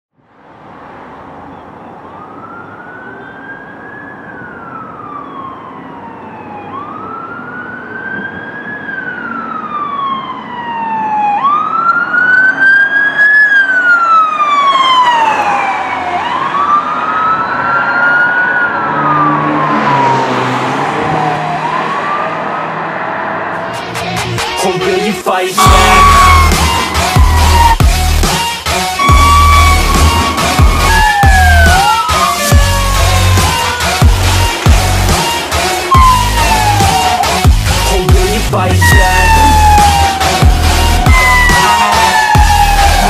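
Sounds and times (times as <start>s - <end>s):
traffic rumble: 0.2s - 43.0s
siren wailing: 1.8s - 23.7s, 25.6s - 43.0s.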